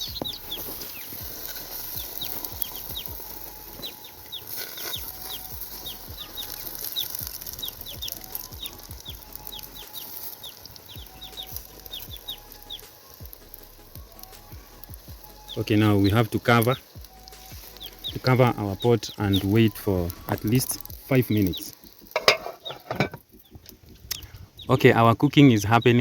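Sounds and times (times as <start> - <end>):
small bird chirping: 0.0 - 13.3, 14.0 - 26.0.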